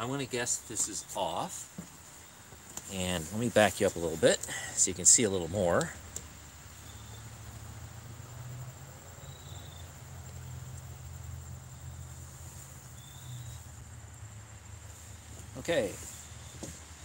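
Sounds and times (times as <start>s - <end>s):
high-pitched insect drone: 0.0s - 14.8s
low constant hum: 0.0s - 17.0s.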